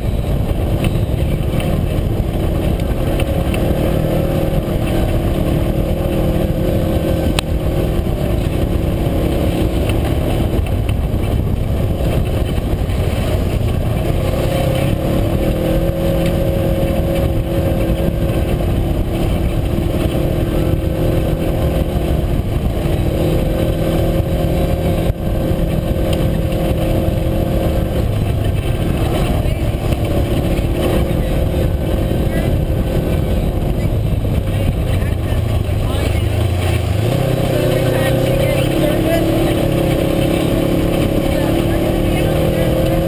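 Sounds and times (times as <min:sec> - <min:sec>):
heavy low rumble: 0:00.0 - 0:43.0
vehicle engine droning: 0:00.0 - 0:43.0.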